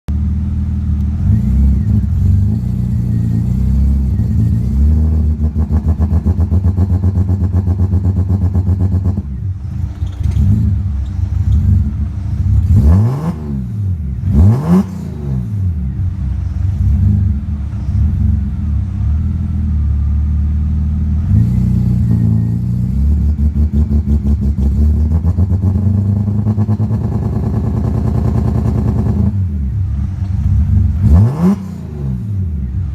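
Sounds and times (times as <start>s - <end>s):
car engine idling unevenly: 0.1s - 32.9s
engine revving: 0.9s - 32.9s.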